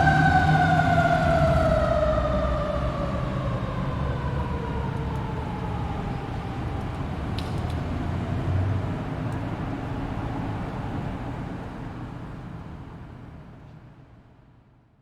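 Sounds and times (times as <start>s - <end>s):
fire truck engine rumbling: 0.0s - 13.3s.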